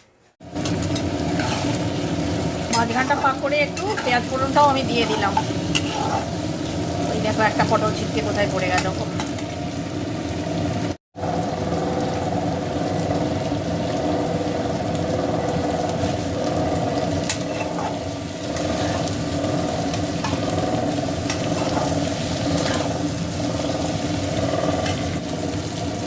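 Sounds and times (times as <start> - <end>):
vegetables sizzling in a pan: 0.4 - 26.0.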